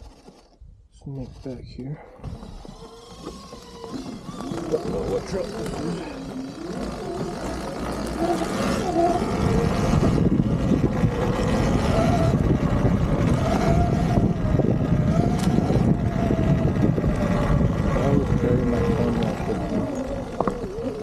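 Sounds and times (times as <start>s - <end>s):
electric motor whine: 1.2s - 21.0s
dirt bike rumble on ground: 2.2s - 21.0s.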